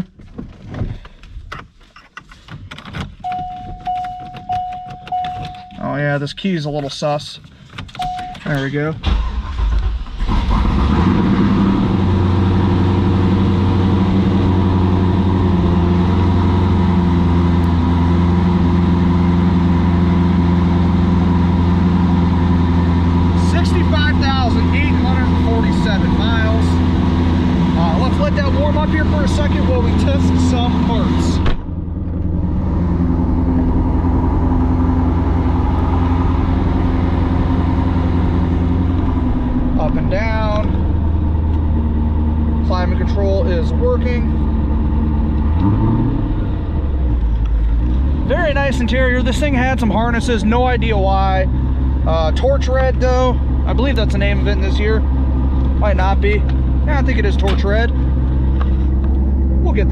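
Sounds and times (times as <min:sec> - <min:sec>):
car engine idling: 0:03.2 - 0:59.9.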